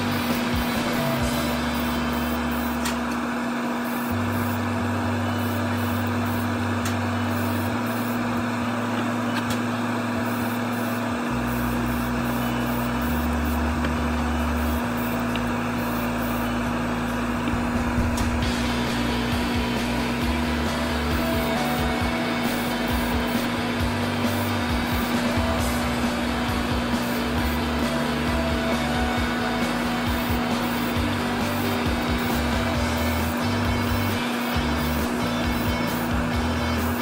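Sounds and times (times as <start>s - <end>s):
background music with slow bass line: 0.0s - 37.0s
extractor fan running: 0.0s - 37.0s.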